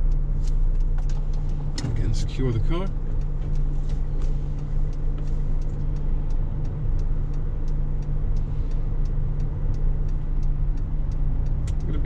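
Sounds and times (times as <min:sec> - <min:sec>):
car engine idling: 0:00.0 - 0:12.0
turn signal ticking: 0:00.0 - 0:12.0.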